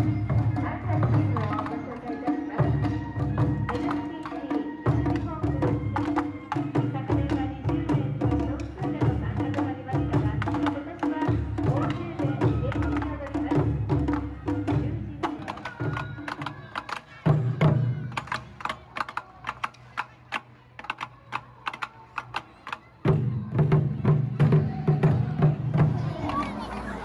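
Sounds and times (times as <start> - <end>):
drums beating: 0.0 - 27.0.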